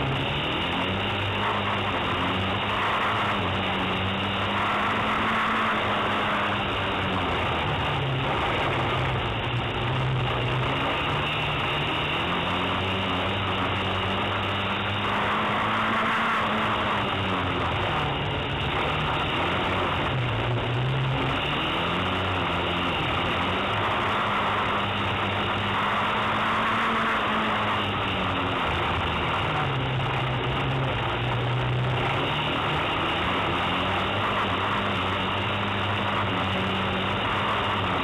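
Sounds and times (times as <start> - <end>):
constant rush of noise: 0.0 - 38.0
race car engine revving: 0.0 - 38.0.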